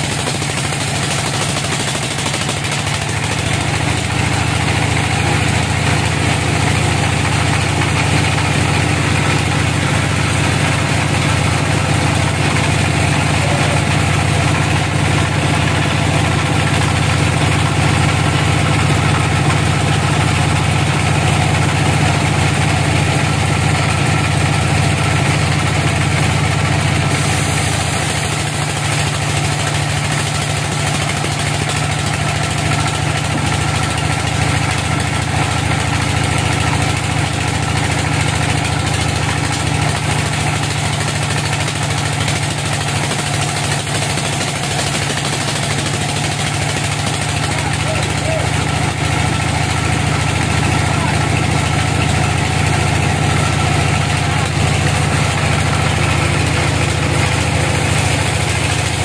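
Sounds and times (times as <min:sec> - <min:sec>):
band saw cutting log: 0:00.0 - 0:20.0, 0:27.1 - 0:35.3, 0:39.4 - 0:48.8, 0:49.4 - 0:59.0.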